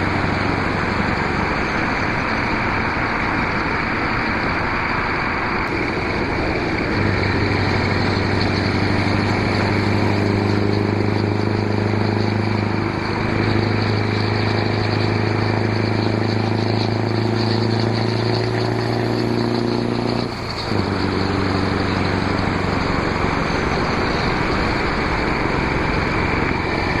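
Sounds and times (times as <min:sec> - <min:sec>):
truck diesel engine drone: 0:00.0 - 0:27.0
wind and road noise: 0:00.0 - 0:27.0.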